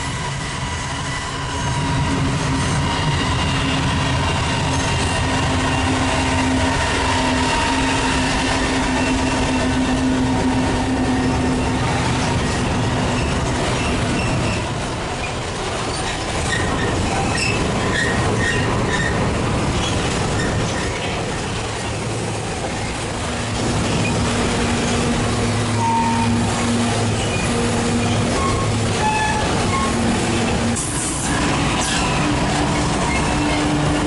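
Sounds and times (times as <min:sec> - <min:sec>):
train wheels squealing: 0:00.0 - 0:10.2, 0:11.0 - 0:21.2, 0:25.7 - 0:30.0, 0:31.0 - 0:33.8
freight train wagons rumbling: 0:00.0 - 0:34.0.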